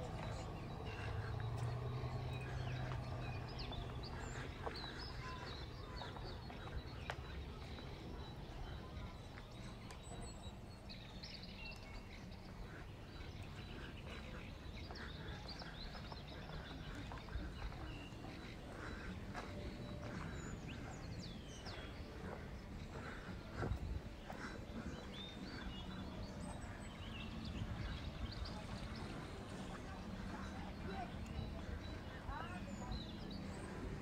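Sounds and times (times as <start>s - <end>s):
outdoor background noise: 0.0s - 34.0s
small birds chirping: 0.0s - 34.0s.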